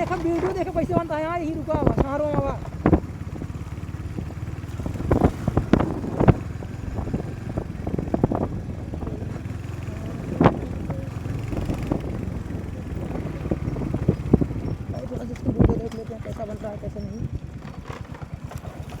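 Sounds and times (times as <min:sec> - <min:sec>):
motorcycle engine humming: 0:00.0 - 0:19.0.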